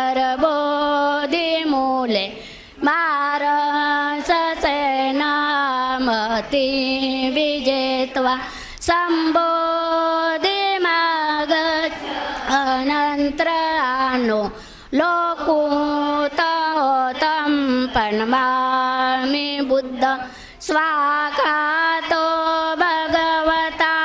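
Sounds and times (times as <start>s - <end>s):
woman chanting into a microphone: 0.0s - 24.0s.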